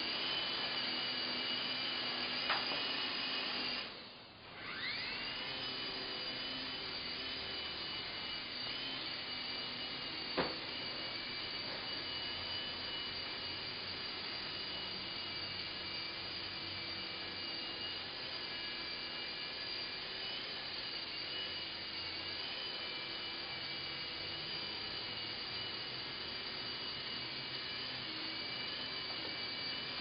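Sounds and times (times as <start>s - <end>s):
toy helicopter motors whining: 0.0s - 30.0s.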